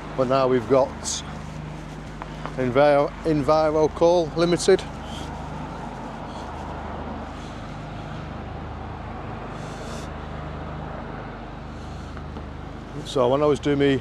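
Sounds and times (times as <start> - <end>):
engine humming steadily: 0.0 - 14.0
street noise: 0.0 - 14.0.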